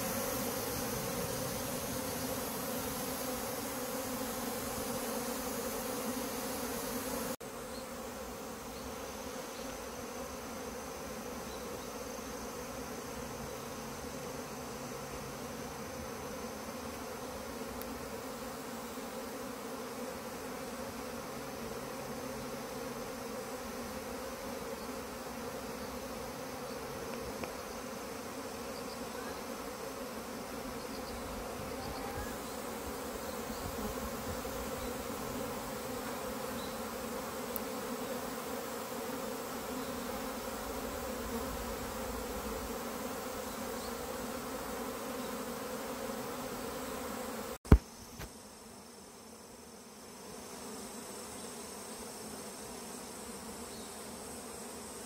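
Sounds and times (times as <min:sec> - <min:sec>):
swarm of bees humming: 0:00.0 - 0:55.0.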